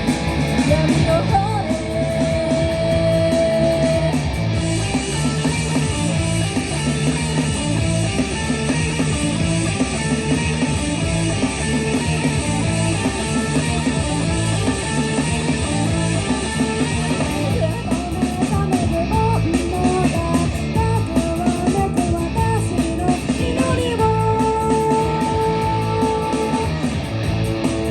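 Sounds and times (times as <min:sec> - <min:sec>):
rock band playing live: 0:00.0 - 0:27.9.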